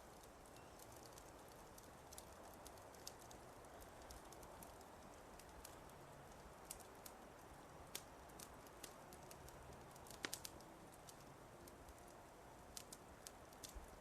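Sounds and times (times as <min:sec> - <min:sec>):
low steady hiss: 0:00.0 - 0:14.0
wood fire crackling: 0:00.0 - 0:14.0.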